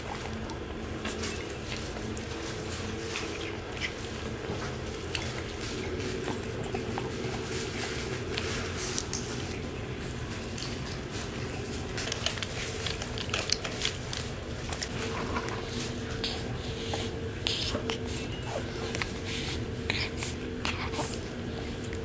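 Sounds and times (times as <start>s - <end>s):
puppies chewing dry kibble: 0.0s - 22.0s
steady hum: 0.0s - 22.0s.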